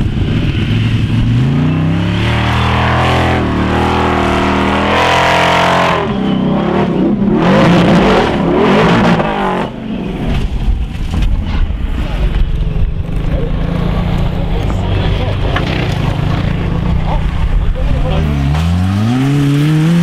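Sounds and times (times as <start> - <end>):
car engine revving at full throttle: 0.0 - 20.0.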